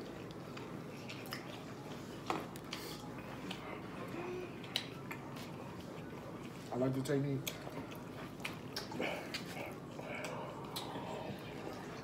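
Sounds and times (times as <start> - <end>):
faint eating noises: 0.0 - 12.0
soft squishy sounds: 0.0 - 12.0.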